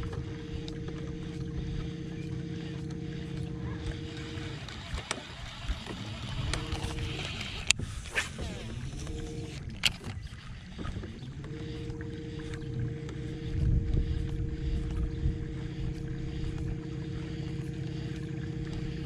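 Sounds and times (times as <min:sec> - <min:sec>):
electric motor humming: 0:00.0 - 0:19.0
low rumble: 0:00.0 - 0:19.0.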